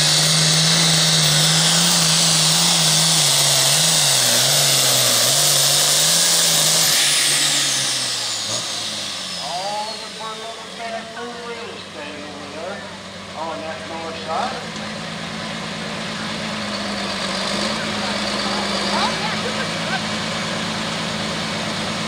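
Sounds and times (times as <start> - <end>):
high whine: 0.0 - 21.8
tractor diesel engine at full throttle: 0.0 - 22.0.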